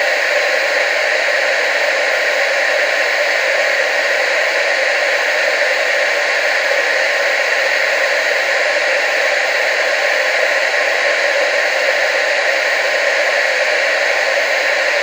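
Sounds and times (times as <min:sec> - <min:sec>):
television static hiss: 0:00.0 - 0:15.0.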